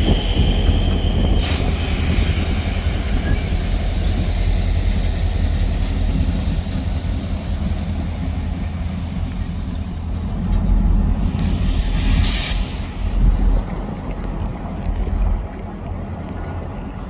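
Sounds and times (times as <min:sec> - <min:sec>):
train rolling past: 0:00.0 - 0:17.0.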